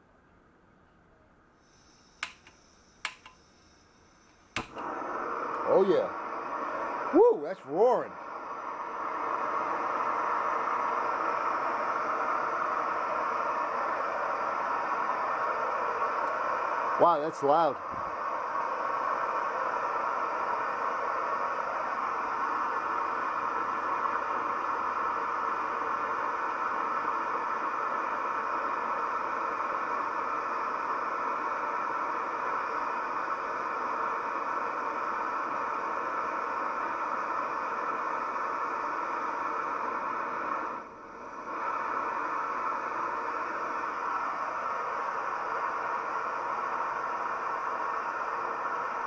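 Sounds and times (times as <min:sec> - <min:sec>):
gas stove burner roaring: 0:01.6 - 0:49.0.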